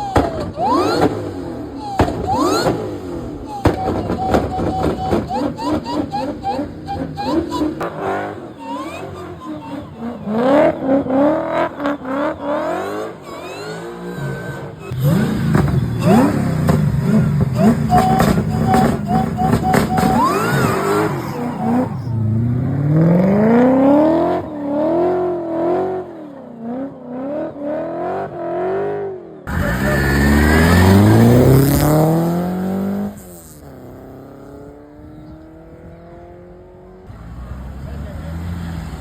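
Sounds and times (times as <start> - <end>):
car engines revving: 0.0 - 39.0.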